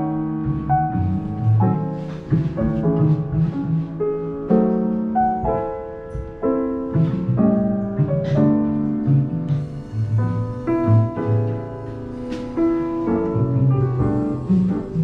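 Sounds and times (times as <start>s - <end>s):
piano playing sustained chords: 0.0s - 15.0s.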